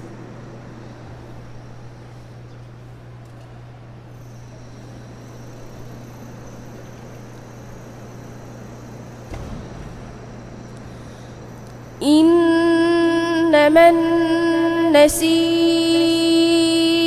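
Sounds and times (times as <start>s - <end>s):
background hum and hiss: 0.0s - 17.0s
faint high whine: 0.0s - 17.0s.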